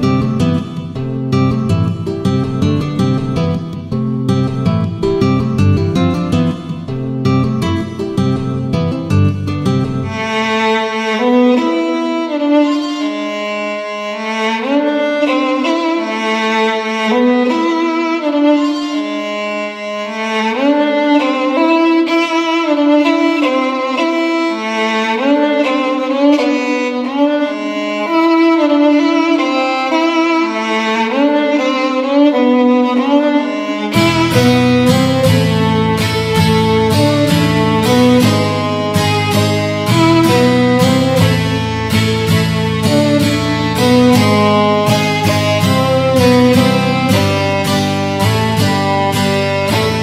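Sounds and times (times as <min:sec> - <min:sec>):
solo violin melody: 0:00.0 - 0:50.0.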